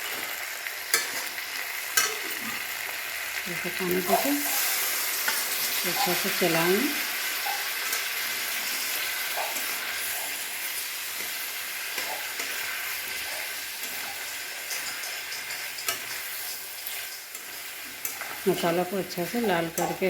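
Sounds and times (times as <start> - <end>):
spoon scraping a pan: 0.0 - 2.9, 4.0 - 20.0
curry sizzling in a pan: 0.0 - 20.0.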